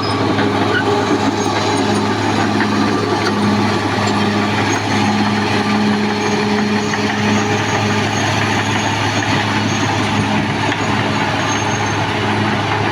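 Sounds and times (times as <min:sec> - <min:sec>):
bulldozer diesel engine running: 0:00.0 - 0:12.9.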